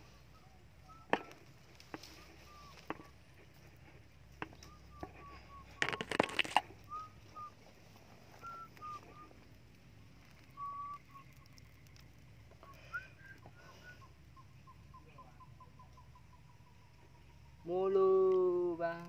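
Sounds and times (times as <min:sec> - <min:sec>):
whistled bird calls: 0:00.0 - 0:03.2, 0:04.4 - 0:09.5, 0:10.4 - 0:17.7.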